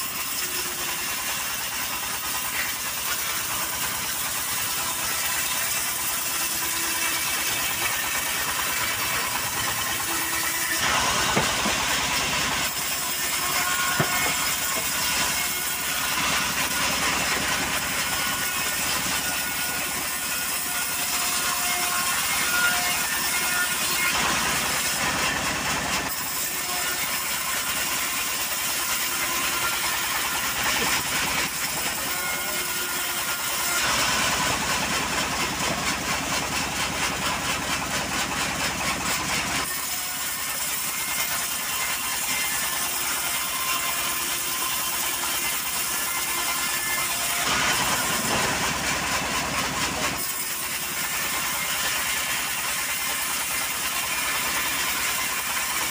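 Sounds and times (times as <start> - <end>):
band saw blade cutting timber: 0.0 - 55.9.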